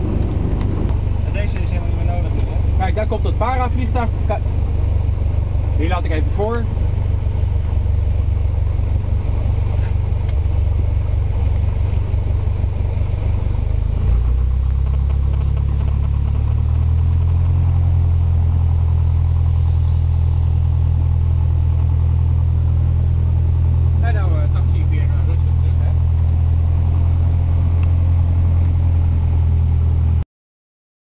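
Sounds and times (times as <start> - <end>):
piston aircraft engine droning: 0.0 - 30.2.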